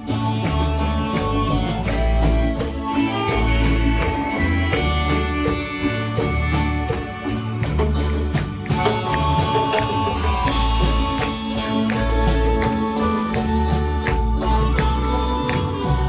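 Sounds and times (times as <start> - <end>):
guitar and bass music: 0.0 - 16.0.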